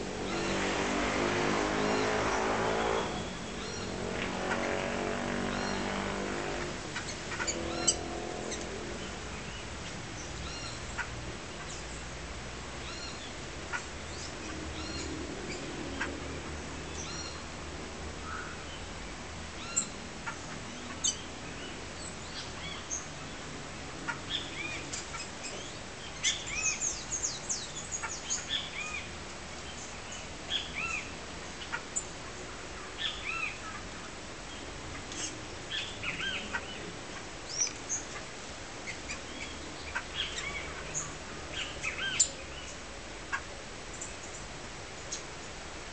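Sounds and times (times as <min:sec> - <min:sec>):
small birds chirping: 0:01.6 - 0:12.2, 0:12.8 - 0:17.5, 0:18.3 - 0:45.6.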